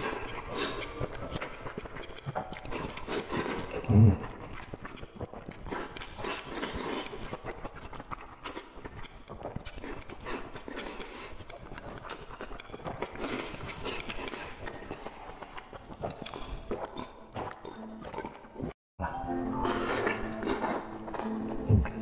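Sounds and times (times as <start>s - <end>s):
chewing with wet mouth clicks: 0.0s - 18.8s, 19.7s - 22.0s.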